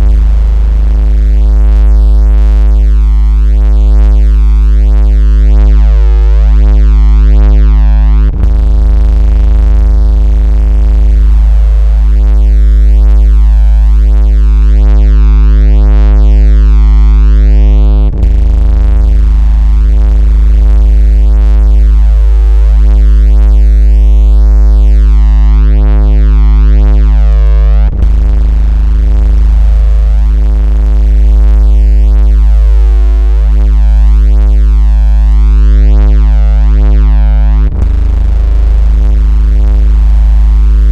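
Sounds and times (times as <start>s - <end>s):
synthesized bass tone: 0.0s - 40.9s.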